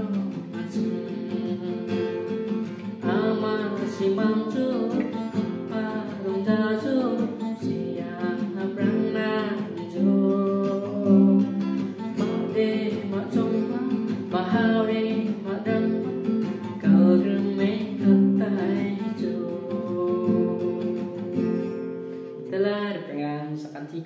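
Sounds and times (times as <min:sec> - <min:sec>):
man singing: 0:00.0 - 0:21.8, 0:22.4 - 0:24.0
strummed acoustic guitar: 0:00.0 - 0:23.3.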